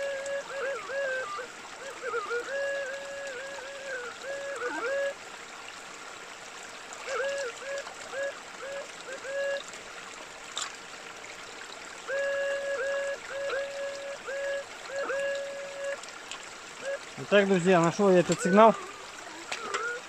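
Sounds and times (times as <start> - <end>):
creek rushing: 0.0 - 20.0.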